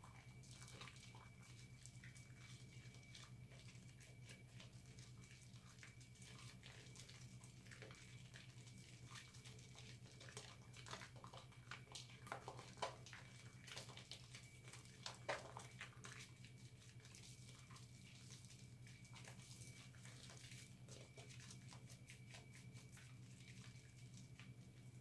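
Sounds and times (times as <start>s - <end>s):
soapy hands squishing soap: 0.0s - 25.0s.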